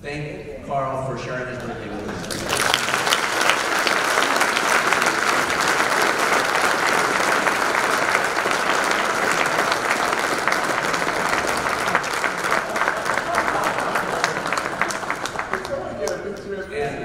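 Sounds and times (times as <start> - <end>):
audience applauding: 1.6 - 16.5.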